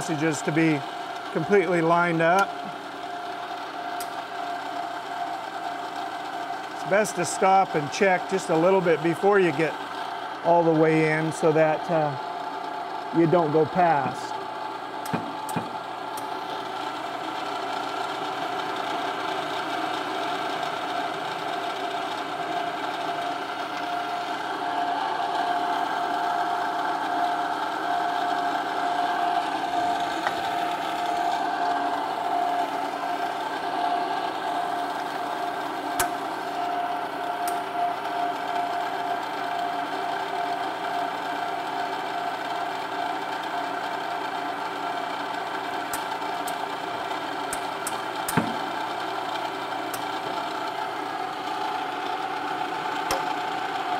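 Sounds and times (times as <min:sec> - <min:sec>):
machine press motor humming: 0:00.0 - 0:53.9.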